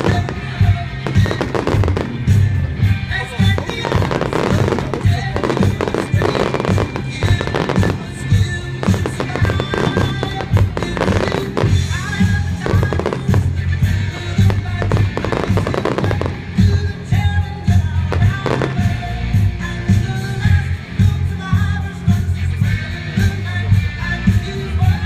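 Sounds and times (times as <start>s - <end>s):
fireworks bursting and crackling: 0.0s - 22.4s
music playing: 0.0s - 25.0s.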